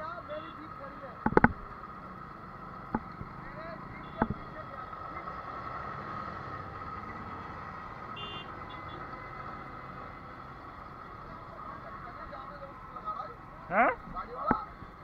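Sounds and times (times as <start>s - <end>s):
motorcycle engine: 0.0s - 15.0s
road traffic: 0.0s - 15.0s.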